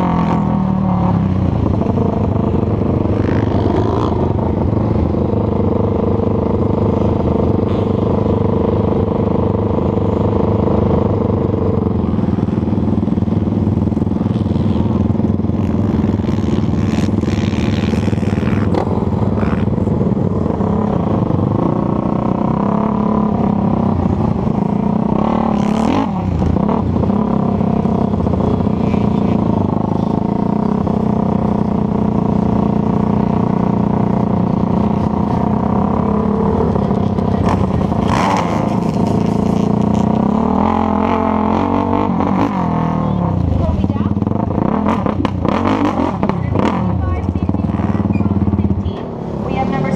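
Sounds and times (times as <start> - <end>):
atv engine running hard: 0.0 - 49.9.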